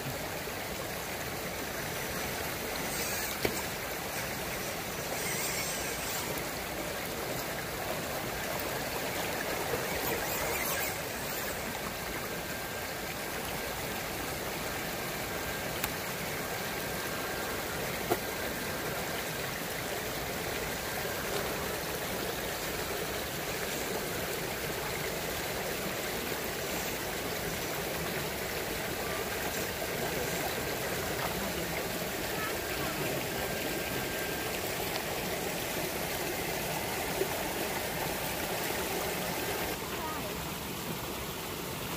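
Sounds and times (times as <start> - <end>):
creek flowing over stones: 0.0 - 41.9.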